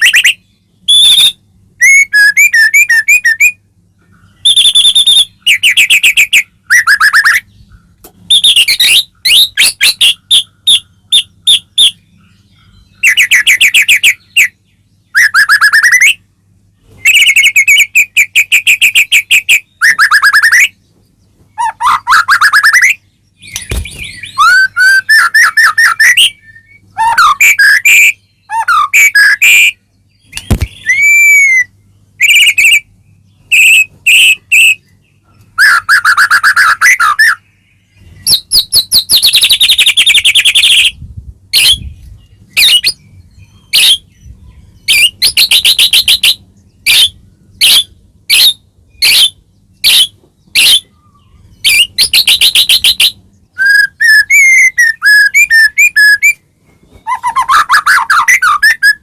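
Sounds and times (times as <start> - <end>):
songbird singing fluty whistles: 0.0 - 3.6, 4.2 - 7.7, 8.3 - 16.2, 16.9 - 20.8, 21.6 - 34.9, 35.5 - 37.5, 38.1 - 41.0, 41.6 - 59.0.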